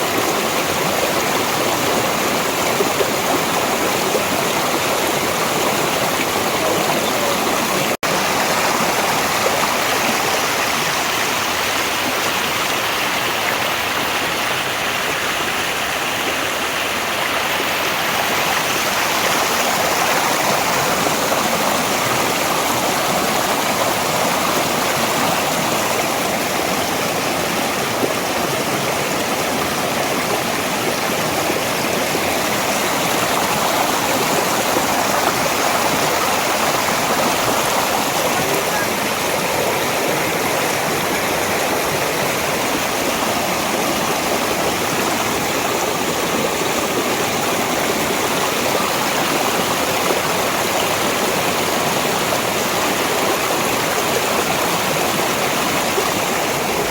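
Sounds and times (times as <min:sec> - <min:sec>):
stream flowing: 0:00.0 - 0:56.9.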